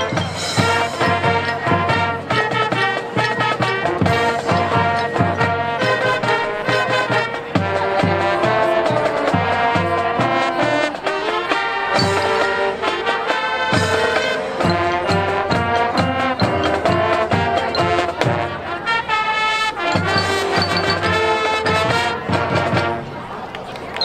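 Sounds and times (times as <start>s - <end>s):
steady drum beat: 0.0s - 11.1s, 11.9s - 18.8s, 19.9s - 23.0s
brass melody: 0.0s - 23.2s.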